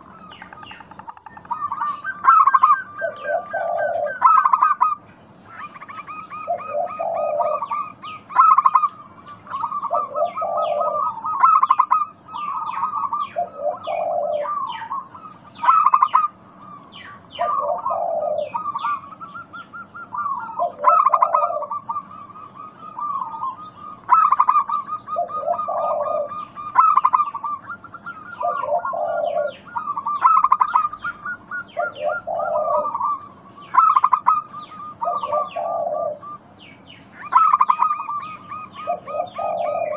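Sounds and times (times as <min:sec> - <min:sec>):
doves cooing with rolling trills: 0:00.0 - 0:39.9.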